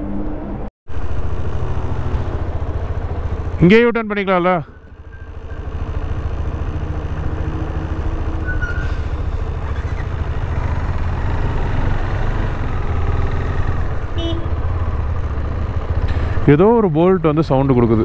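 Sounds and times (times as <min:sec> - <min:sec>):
road noise: 0:00.0 - 0:18.0
motorcycle engine running: 0:00.9 - 0:18.0.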